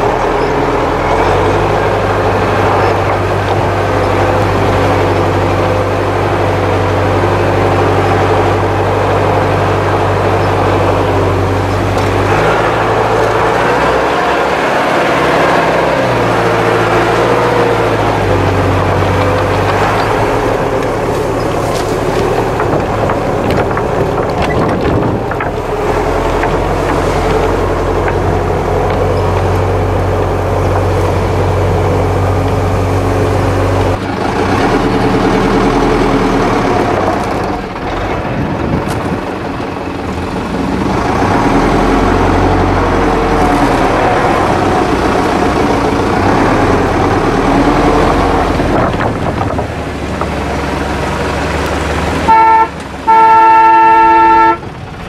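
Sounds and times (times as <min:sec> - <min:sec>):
vehicle body rattles: 0:00.0 - 0:53.1
off-road vehicle engine under load: 0:00.0 - 0:55.0.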